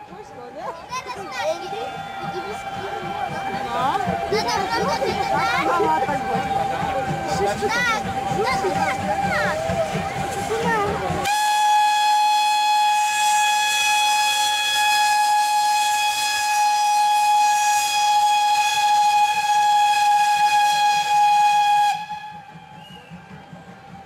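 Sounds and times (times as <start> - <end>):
steam locomotive whistle: 0.9 - 24.0
steam hissing: 1.4 - 24.0.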